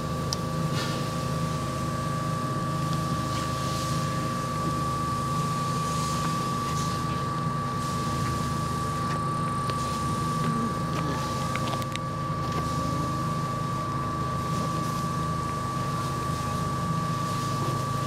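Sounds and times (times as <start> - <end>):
high-pitched whine: 0.0 - 18.0
machine drone: 0.0 - 18.0.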